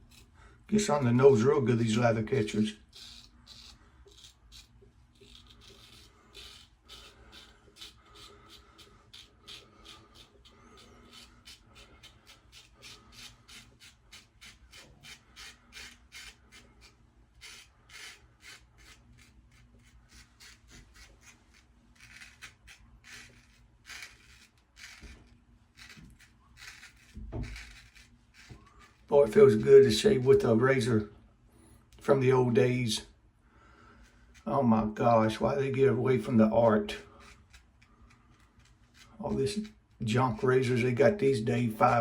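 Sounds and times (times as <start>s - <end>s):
razor scraping stubble: 0.0s - 30.9s, 33.9s - 42.0s.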